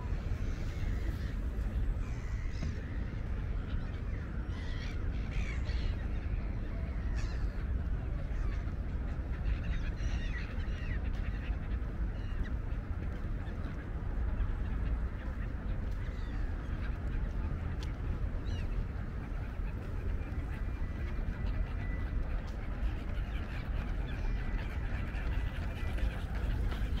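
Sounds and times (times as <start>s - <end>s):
gulls calling: 0.0s - 27.0s
steady low rumble: 0.0s - 27.0s.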